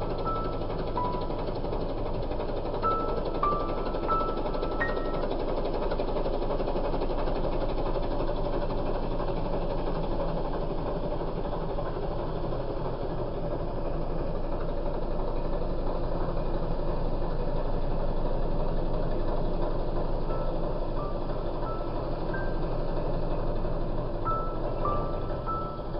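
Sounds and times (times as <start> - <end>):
diesel engine knocking chug: 0.0 - 25.9.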